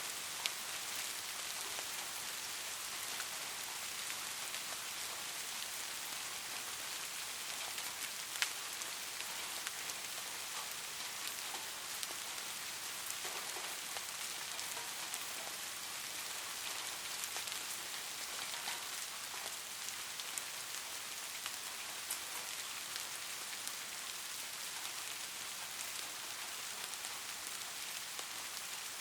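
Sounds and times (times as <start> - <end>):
rain on hard surface: 0.0 - 29.0.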